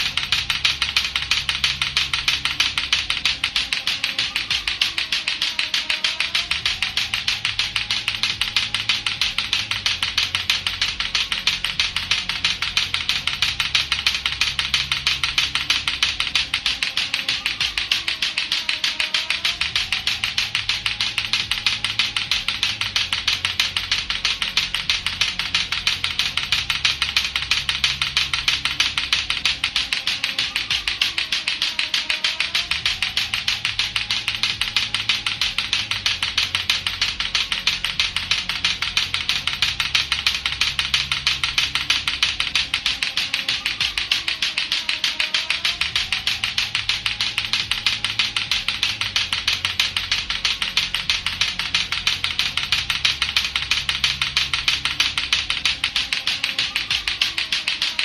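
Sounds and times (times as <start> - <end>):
looping music with low notes: 0.0 - 58.0
plastic clacker balls knocking: 0.0 - 58.0.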